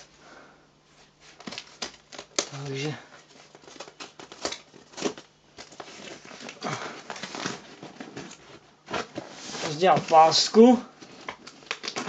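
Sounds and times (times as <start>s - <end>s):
packing tape tearing off cardboard: 1.2s - 10.3s, 11.0s - 12.0s.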